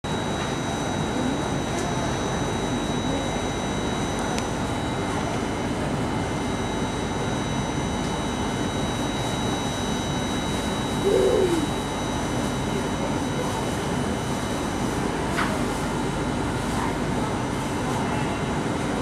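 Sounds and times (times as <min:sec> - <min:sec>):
ventilation hum: 0:00.0 - 0:19.0.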